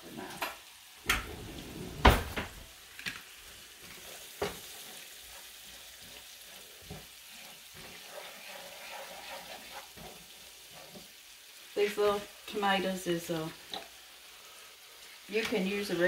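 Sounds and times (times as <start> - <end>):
food sizzling in skillet: 0.0 - 16.0.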